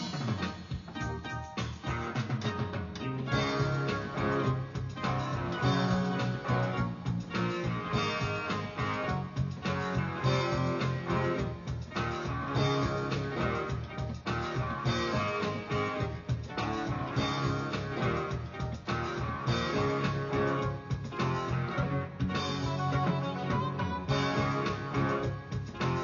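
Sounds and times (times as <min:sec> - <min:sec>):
guitar music: 0:00.0 - 0:26.0.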